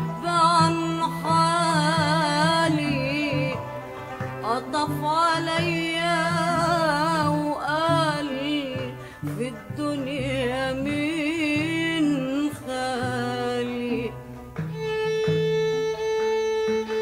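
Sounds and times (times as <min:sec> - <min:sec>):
bowed strings melody: 0:00.0 - 0:17.0.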